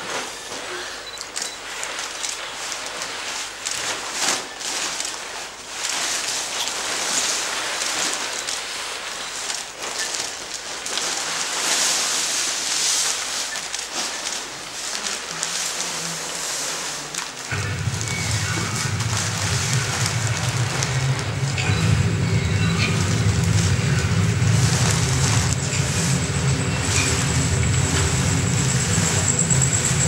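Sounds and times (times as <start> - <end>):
plastic sheeting rustling: 0.0 - 30.0.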